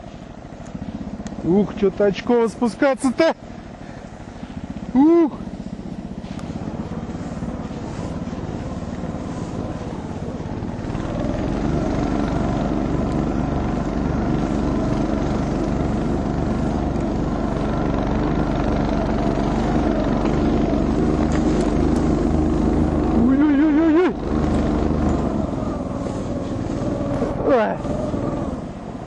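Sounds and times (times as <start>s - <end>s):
small snowmobile engine running: 0.0s - 29.0s.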